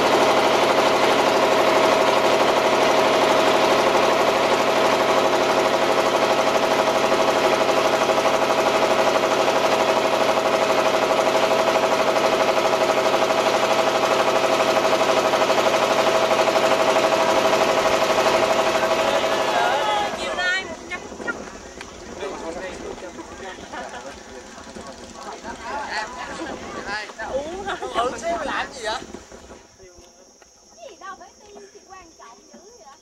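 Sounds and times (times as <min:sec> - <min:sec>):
boat engine chugging: 0:00.0 - 0:32.8.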